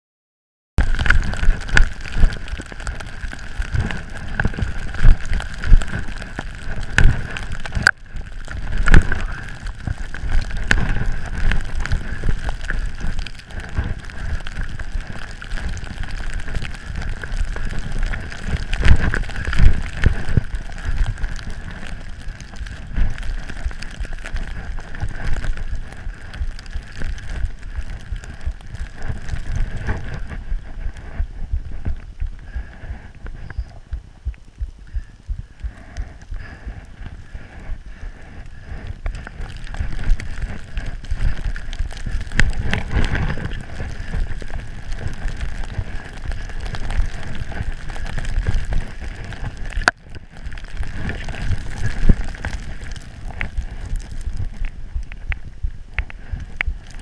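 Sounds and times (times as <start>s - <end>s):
skis running through snow: 0.8s - 34.3s, 35.0s - 57.0s
wind buffeting microphone: 0.8s - 57.0s.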